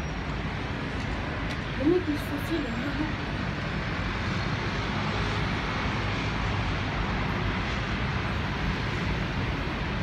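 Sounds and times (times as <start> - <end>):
city traffic rumble: 0.0 - 10.0.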